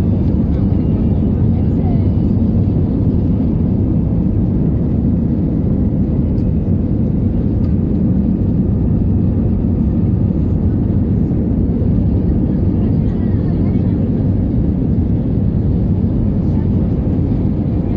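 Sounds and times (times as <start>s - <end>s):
airliner cabin engine and airflow rush: 0.0s - 17.9s.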